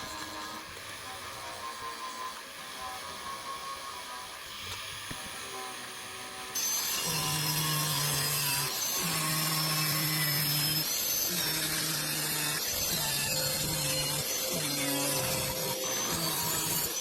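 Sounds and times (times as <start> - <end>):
power tool cutting metal: 0.0 - 17.0.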